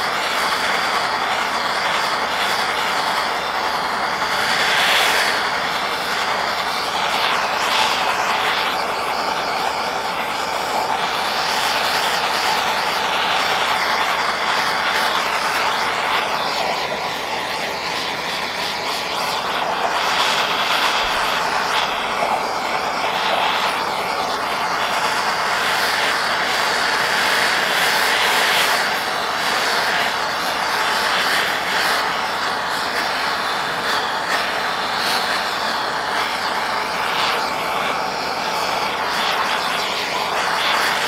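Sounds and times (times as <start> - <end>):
gas torch flame rushing: 0.0 - 41.0.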